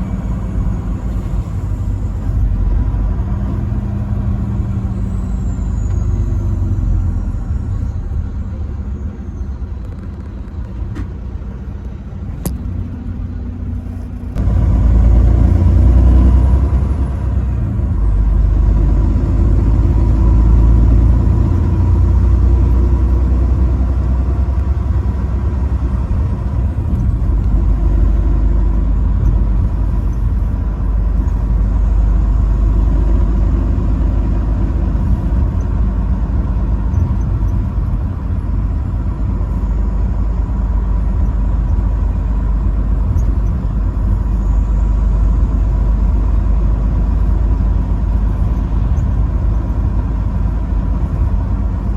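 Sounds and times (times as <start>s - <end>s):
road vehicle rumbling: 0.0s - 51.9s.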